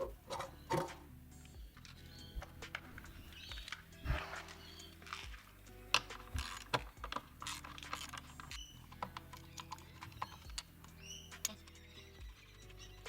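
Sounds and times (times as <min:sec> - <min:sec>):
bird chirps: 0:00.0 - 0:07.6, 0:08.2 - 0:13.0.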